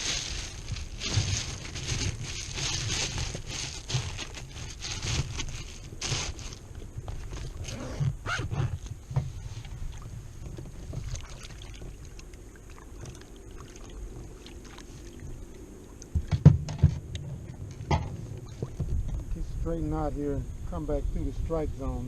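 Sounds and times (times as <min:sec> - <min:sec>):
water and wind against kayak hull: 0:00.0 - 0:22.0.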